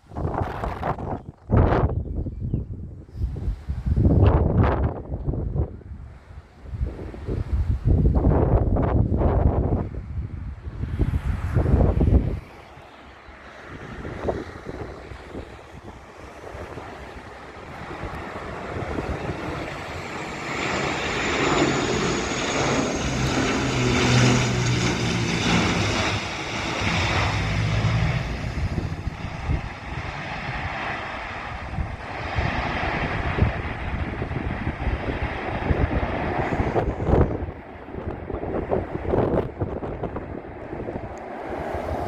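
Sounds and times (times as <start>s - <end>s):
turboprop airliner drone: 0.0s - 42.0s
wind buffeting microphone: 0.0s - 42.0s.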